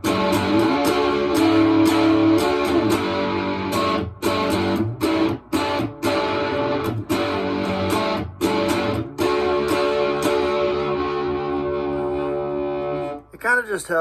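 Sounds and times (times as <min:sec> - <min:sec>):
distorted electric guitar chords: 0:00.0 - 0:13.3.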